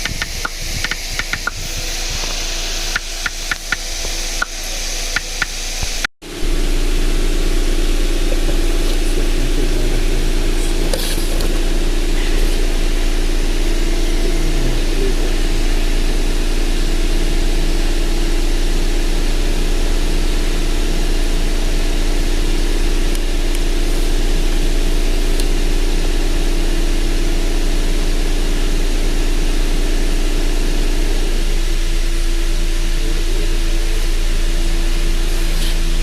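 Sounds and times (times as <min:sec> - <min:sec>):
engine idling: 0:00.0 - 0:36.0.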